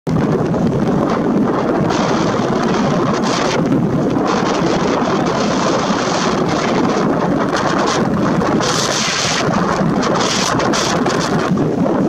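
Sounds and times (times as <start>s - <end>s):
strong wind on microphone: 0.1s - 12.0s.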